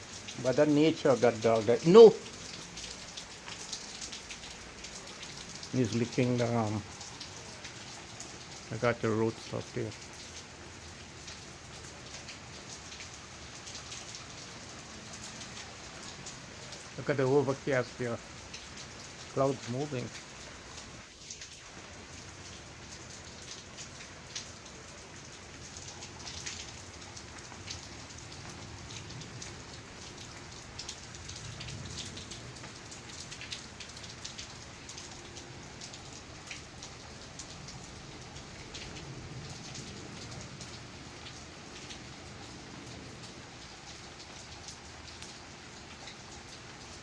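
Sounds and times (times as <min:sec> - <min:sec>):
sharp drips: 0:00.0 - 0:47.0
steady rain falling: 0:00.0 - 0:47.0.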